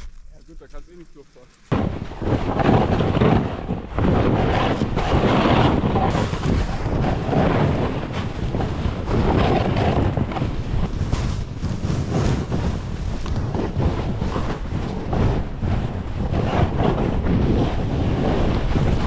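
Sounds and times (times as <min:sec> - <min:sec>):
wind buffeting microphone: 0:01.7 - 0:19.0.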